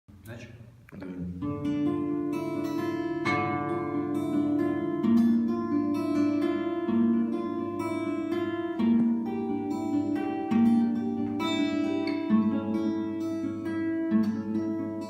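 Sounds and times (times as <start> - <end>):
acoustic guitar picked: 0.1 - 15.0.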